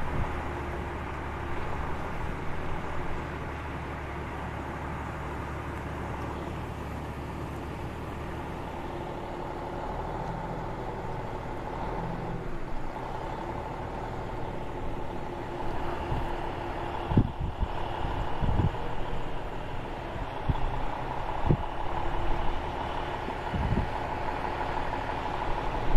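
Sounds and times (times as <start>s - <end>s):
heavy truck engine running: 0.0s - 25.9s.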